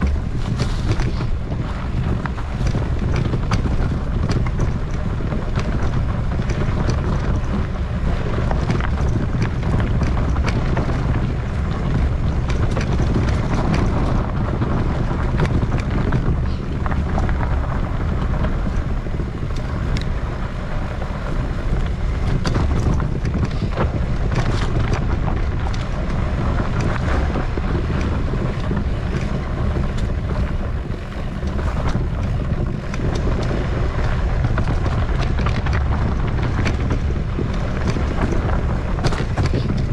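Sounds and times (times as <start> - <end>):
bike knocks and clicks: 0.0 - 39.9
wind buffeting microphone: 0.0 - 39.9.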